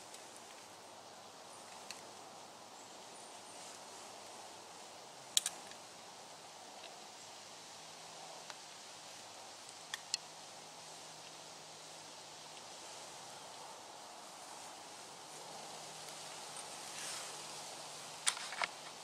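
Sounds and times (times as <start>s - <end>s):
faint steady rustle: 0.0s - 19.0s.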